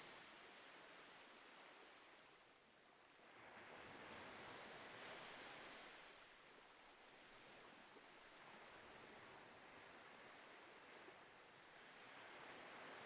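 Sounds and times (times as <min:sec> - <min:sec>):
faint surf on beach: 0:00.0 - 0:13.0.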